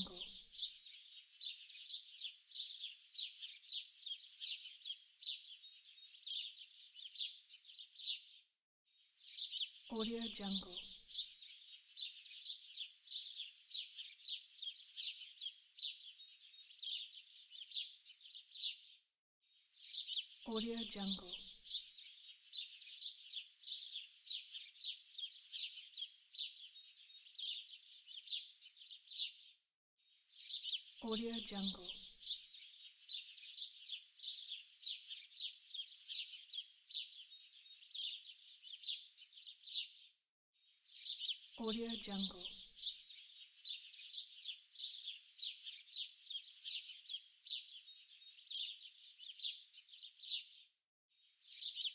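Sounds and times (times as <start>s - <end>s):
songbirds chirping: 0.0s - 29.6s, 30.2s - 51.9s.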